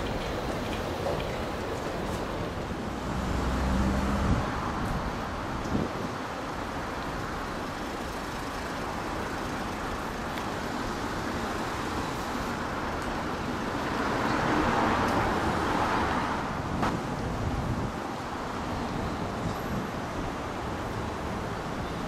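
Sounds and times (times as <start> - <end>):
passing cars: 0.0 - 22.0.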